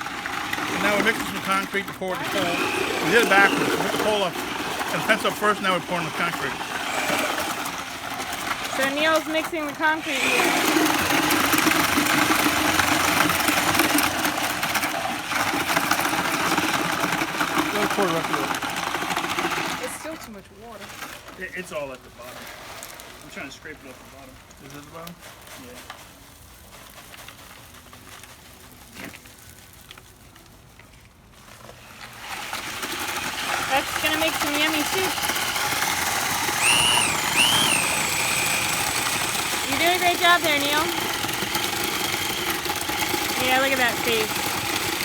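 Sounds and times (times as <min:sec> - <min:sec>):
concrete mixer churning: 0:00.0 - 0:45.0.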